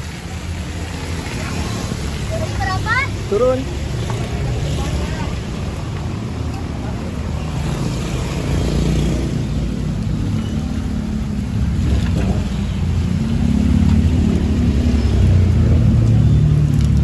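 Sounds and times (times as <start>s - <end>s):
minibus engine humming: 0.0s - 17.0s.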